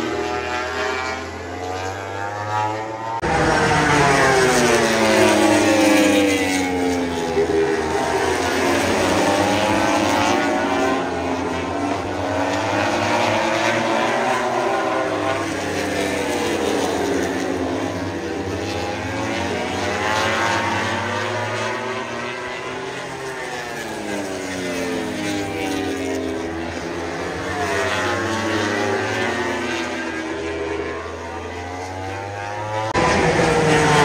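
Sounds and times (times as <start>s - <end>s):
racing motorcycle engines: 0.0s - 34.0s.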